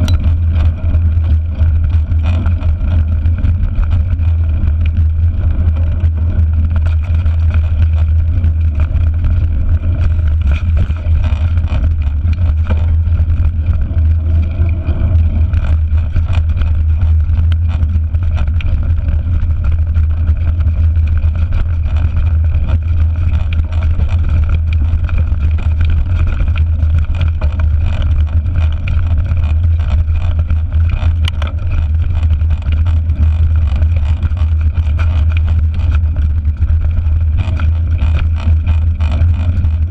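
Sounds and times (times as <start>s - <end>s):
bike knocking and rattling: 0.0s - 39.9s
wind rumbling on microphone: 0.0s - 39.9s.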